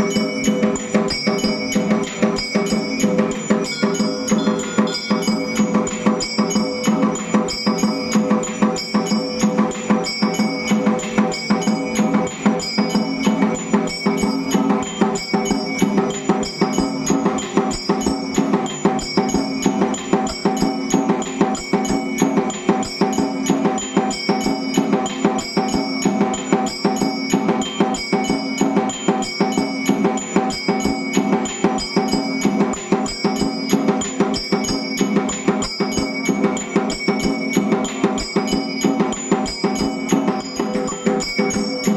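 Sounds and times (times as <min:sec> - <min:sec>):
bells struck in rhythm: 0:00.0 - 0:41.9
drum beat: 0:00.0 - 0:41.9.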